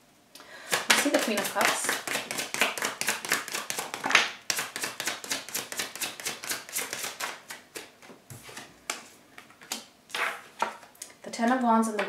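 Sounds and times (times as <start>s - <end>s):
cards being shuffled: 0.7s - 10.8s.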